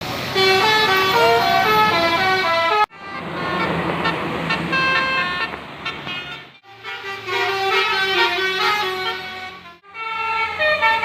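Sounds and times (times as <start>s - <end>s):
multi-tone bus horn melody: 0.2s - 11.0s.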